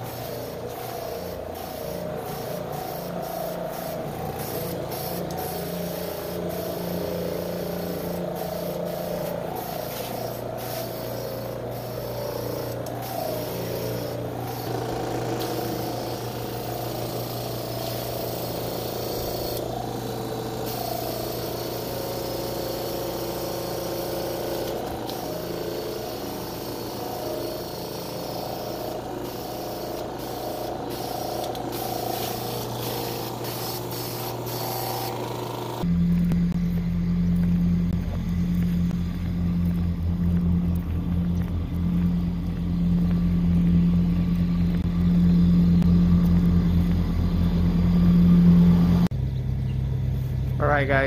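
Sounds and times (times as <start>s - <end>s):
electric sprayer humming: 0.0s - 49.1s.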